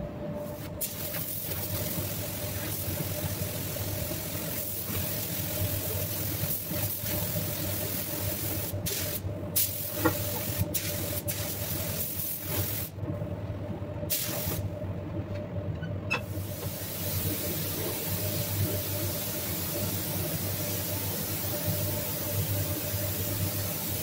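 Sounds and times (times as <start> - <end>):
steady low hum: 0.0 - 24.0
spray gun hissing: 0.8 - 12.9, 16.3 - 24.0.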